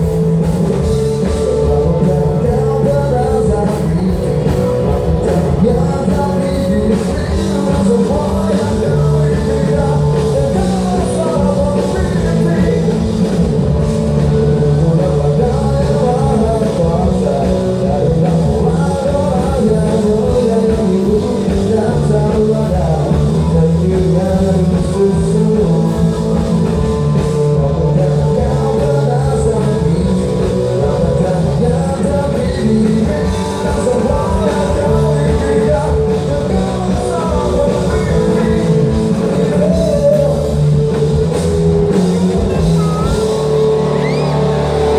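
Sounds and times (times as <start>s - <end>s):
drum kit: 0.0s - 44.9s
electric guitar: 0.0s - 44.9s
rock band playing live: 0.0s - 44.9s.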